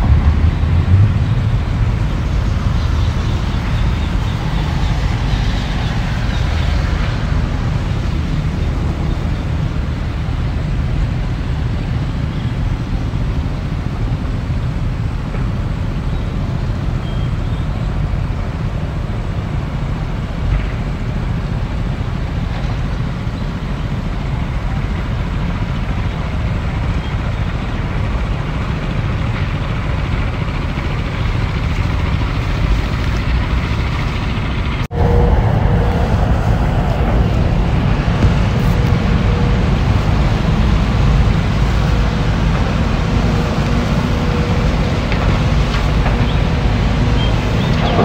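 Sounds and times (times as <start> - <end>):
excavator diesel engine rumbling: 0.0 - 48.0.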